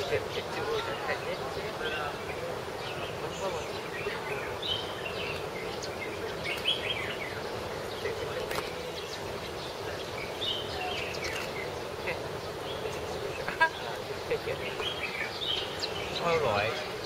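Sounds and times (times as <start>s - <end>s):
birds chirping and calling: 0.0s - 17.0s
steady background hum: 0.0s - 17.0s.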